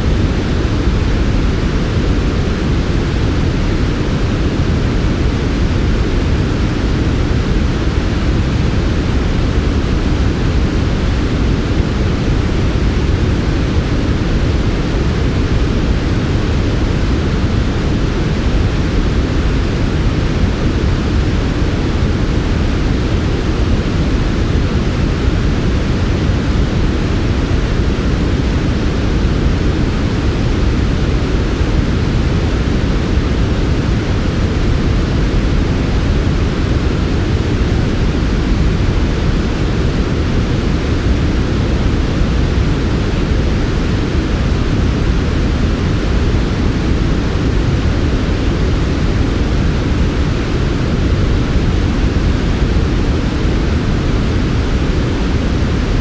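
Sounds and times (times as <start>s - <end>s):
low white noise rush: 0.0s - 56.0s.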